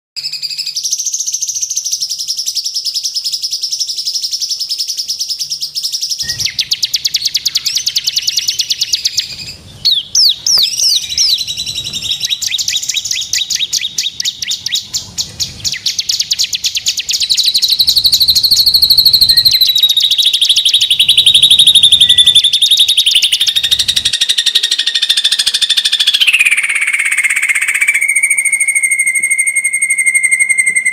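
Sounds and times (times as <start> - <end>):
songbird trills and chirps: 0.2 - 30.9.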